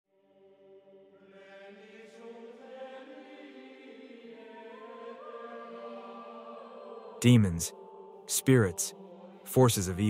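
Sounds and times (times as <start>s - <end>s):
faint choral music: 0.1s - 10.0s.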